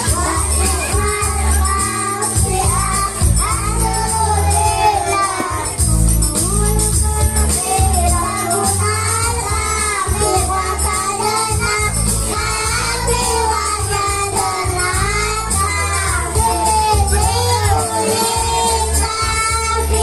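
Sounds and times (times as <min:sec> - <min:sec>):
heavy bass notes: 0:00.0 - 0:20.0
tambourine jingle: 0:00.0 - 0:20.0.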